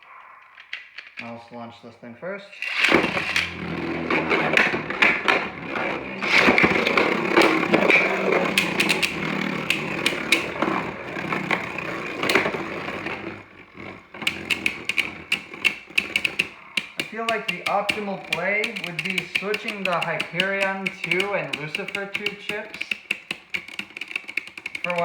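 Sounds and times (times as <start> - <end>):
quick clicks: 2.5 - 25.0
spinning tops whirring: 2.6 - 25.0.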